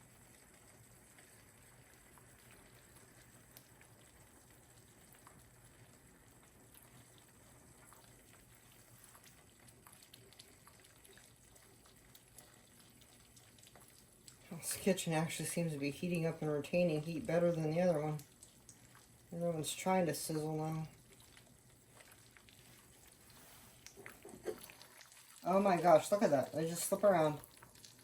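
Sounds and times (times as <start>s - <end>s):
eggs sizzling in a pan: 0.0s - 28.0s.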